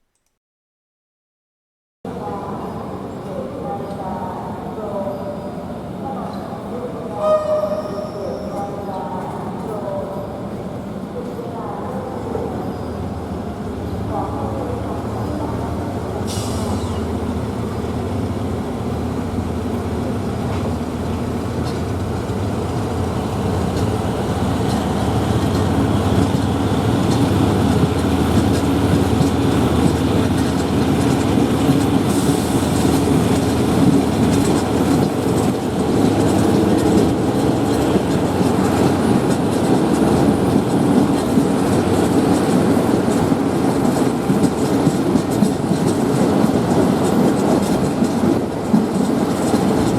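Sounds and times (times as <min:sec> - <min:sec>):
train wheels rolling on rails: 0:07.2 - 0:49.9
clickety-clack over rail joints: 0:08.6 - 0:49.9.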